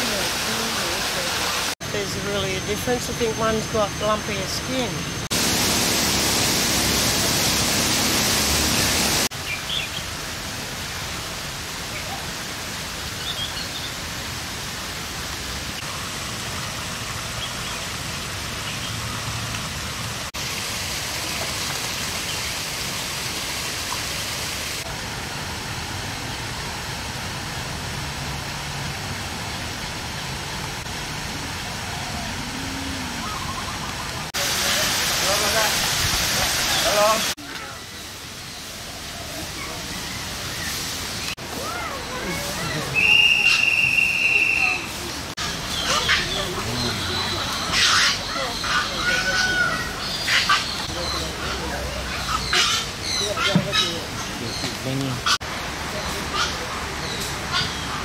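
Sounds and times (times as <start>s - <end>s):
steady rushing hiss: 0.0s - 53.2s.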